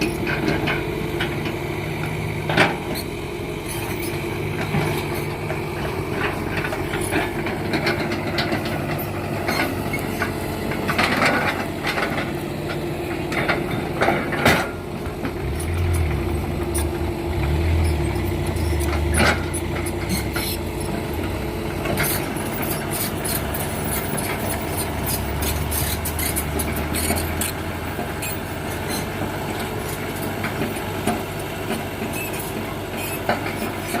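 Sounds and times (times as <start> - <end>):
diesel engine droning: 0.0 - 34.0.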